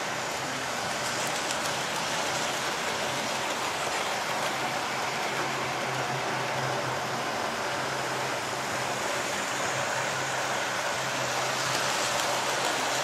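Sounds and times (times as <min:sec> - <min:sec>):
model train wheels rattling on rails: 0:00.0 - 0:13.0.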